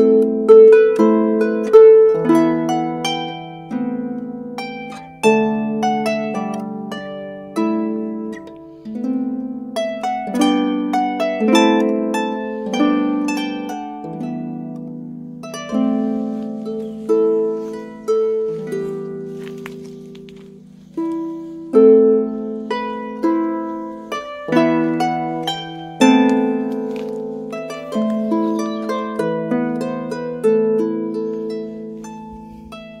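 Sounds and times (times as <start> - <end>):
harp playing slow tune: 0.0 - 33.0.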